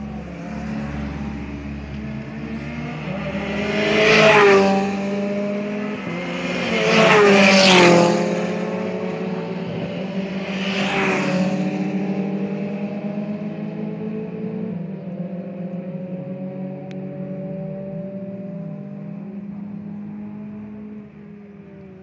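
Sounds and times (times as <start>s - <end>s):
drone of engines: 0.0s - 22.0s
race cars passing at speed: 0.0s - 22.0s.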